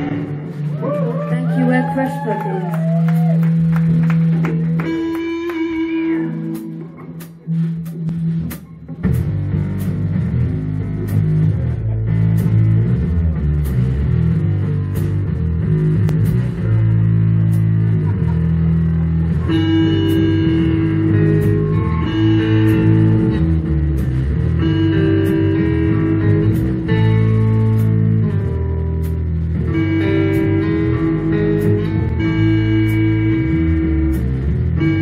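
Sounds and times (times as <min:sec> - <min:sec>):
bass guitar: 0:00.0 - 0:35.0
electric guitars: 0:00.0 - 0:35.0
drum kit: 0:02.8 - 0:35.0.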